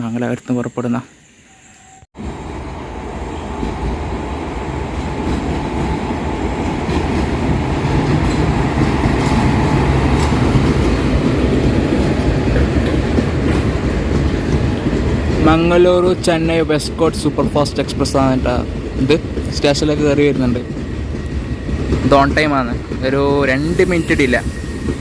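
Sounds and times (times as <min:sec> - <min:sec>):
train rumbling: 0:02.0 - 0:25.0.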